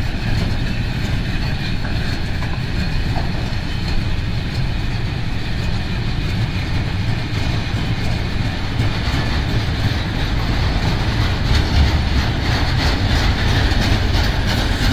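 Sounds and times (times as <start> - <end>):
freight train wheels rumbling: 0.0 - 14.9.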